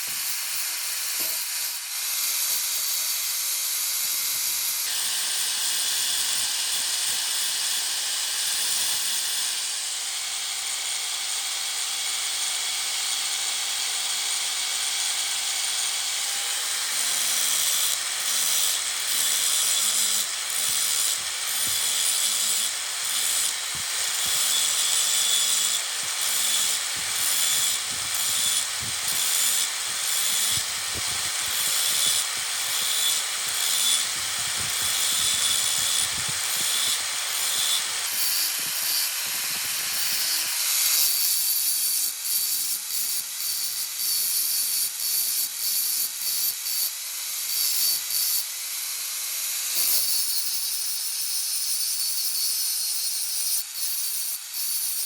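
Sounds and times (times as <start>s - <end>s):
power tool grinding steel: 0.0s - 55.0s.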